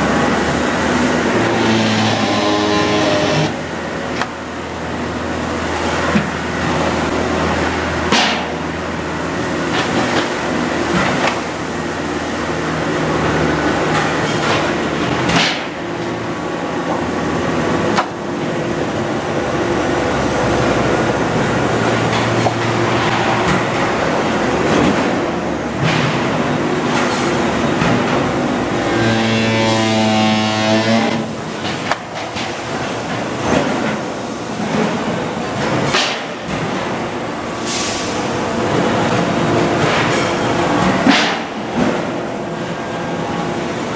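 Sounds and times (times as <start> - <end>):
factory machinery drone: 0.0 - 43.9.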